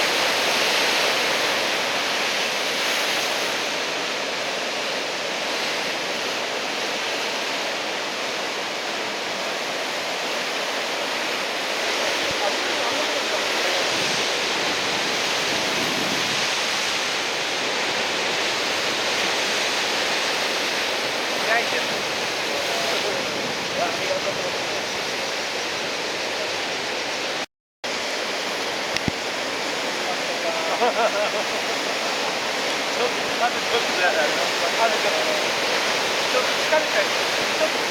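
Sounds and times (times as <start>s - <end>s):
heavy surf rushing: 0.0s - 37.9s
waves breaking: 0.0s - 37.9s.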